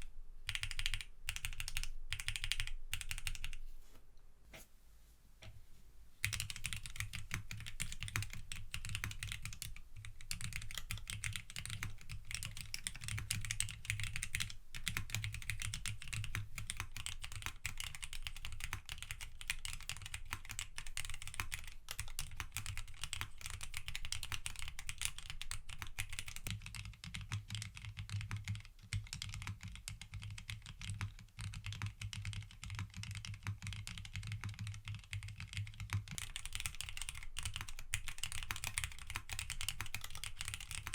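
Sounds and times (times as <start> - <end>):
mechanical keyboard typing: 0.5 - 3.6, 6.2 - 40.9.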